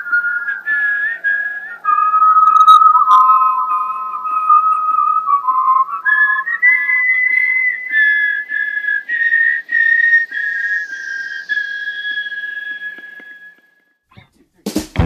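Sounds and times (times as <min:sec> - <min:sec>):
whistled melody in harmony: 0:00.0 - 0:13.9.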